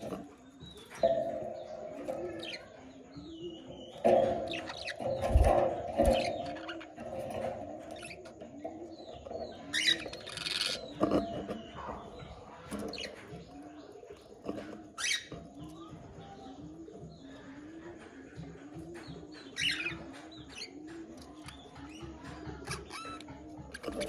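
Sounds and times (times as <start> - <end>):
budgerigars chirping and warbling: 0.0 - 24.0.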